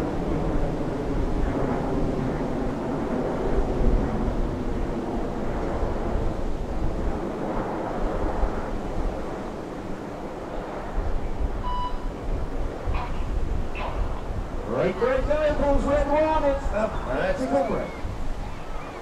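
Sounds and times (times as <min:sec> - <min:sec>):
distant jet rumble: 0:00.0 - 0:19.0
wind buffeting microphone: 0:00.0 - 0:19.0.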